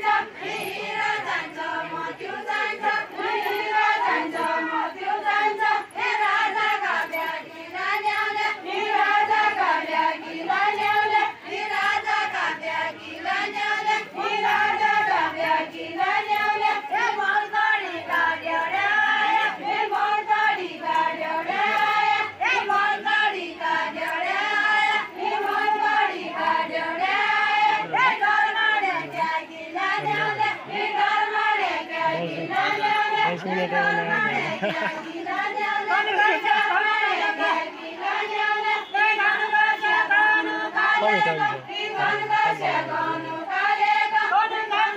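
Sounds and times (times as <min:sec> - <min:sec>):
women's chorus singing unaccompanied: 0:00.0 - 0:44.9.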